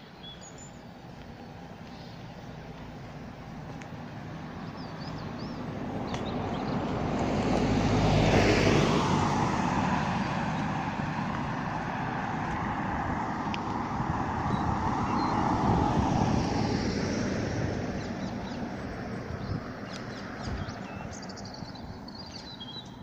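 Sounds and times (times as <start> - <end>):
passing vehicle rumbling: 0.0 - 23.0.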